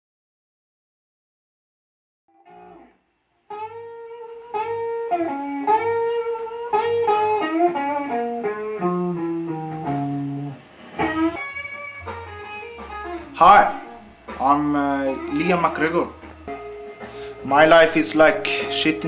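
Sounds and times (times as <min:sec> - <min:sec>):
plucked guitar melody: 0:02.3 - 0:19.0.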